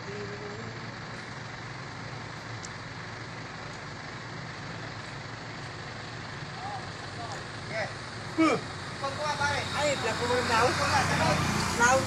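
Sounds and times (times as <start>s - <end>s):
low motor hum: 0.0s - 12.0s
outdoor street noise: 0.0s - 12.0s.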